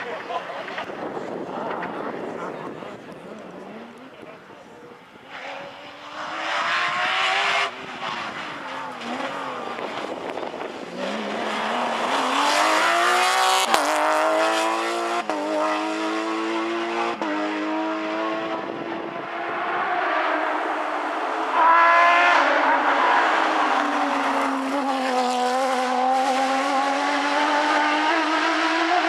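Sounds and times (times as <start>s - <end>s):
rally car engine accelerating: 0.0s - 29.0s.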